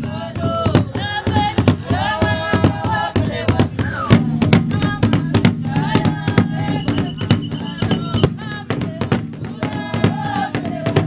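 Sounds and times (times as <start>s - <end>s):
sharp percussive beat: 0.0s - 11.0s.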